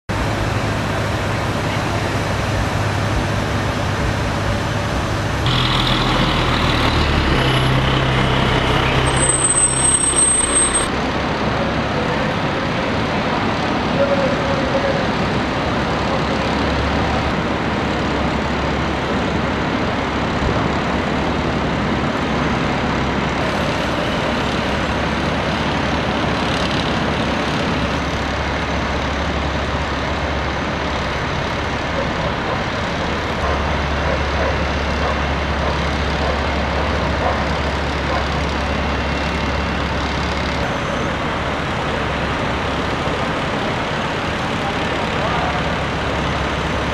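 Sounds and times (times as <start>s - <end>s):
fire truck engines idling: 0.1s - 46.9s
street traffic noise: 0.1s - 46.9s.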